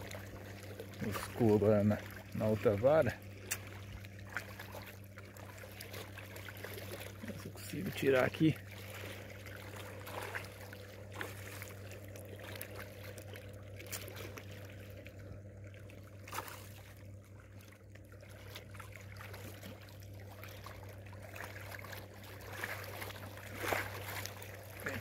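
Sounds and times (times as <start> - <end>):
river water lapping: 0.0 - 25.0
steady low hum: 0.0 - 25.0
fish splashing: 3.2 - 7.7, 8.6 - 25.0.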